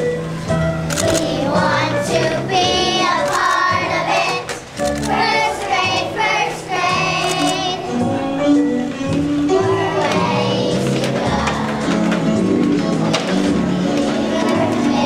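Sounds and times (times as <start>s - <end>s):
accompanying music: 0.0s - 15.0s
children singing in unison: 1.0s - 15.0s.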